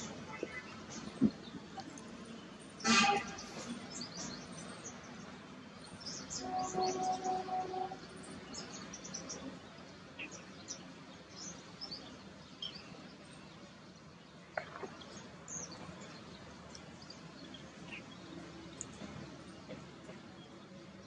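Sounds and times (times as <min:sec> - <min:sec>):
outdoor background noise: 0:00.0 - 0:21.0
small birds chirping: 0:00.0 - 0:21.0.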